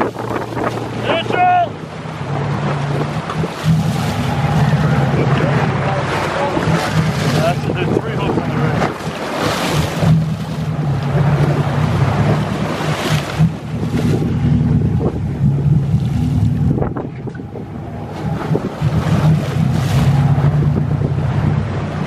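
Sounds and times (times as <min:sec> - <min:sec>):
boat engine humming: 0:00.0 - 0:22.0
water splashing along hull: 0:00.0 - 0:22.0
wind buffeting microphone: 0:00.0 - 0:22.0.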